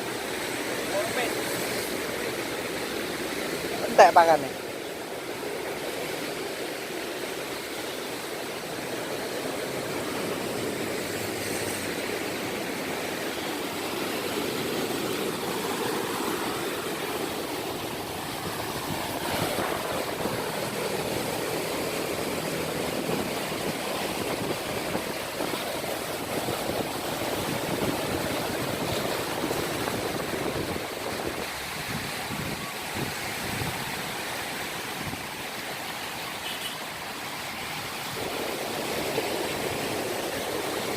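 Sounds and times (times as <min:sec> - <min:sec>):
sea water rushing: 0:00.0 - 0:40.9.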